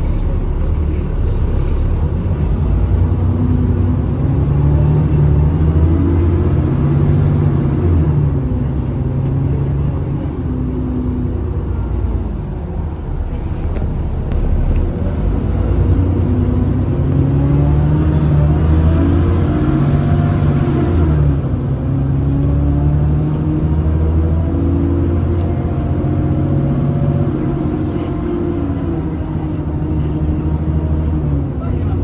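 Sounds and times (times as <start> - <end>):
bus diesel engine accelerating: 0.0 - 32.0.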